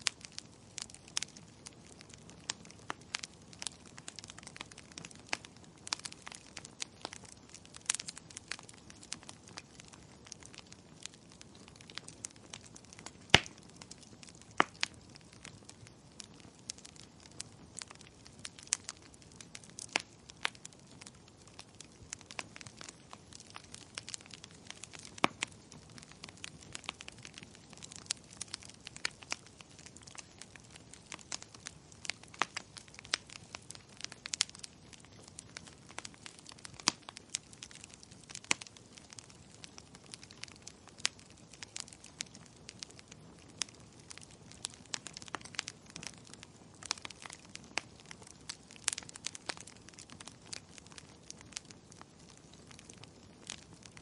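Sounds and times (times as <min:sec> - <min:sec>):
low steady hiss of fire: 0:00.0 - 0:54.0
wood fire popping and snapping: 0:00.0 - 0:54.0.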